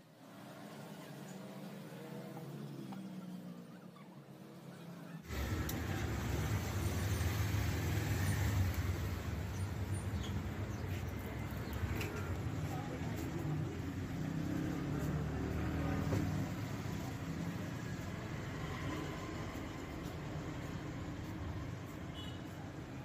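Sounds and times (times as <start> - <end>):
vehicle traffic rumble: 0.1 - 23.0.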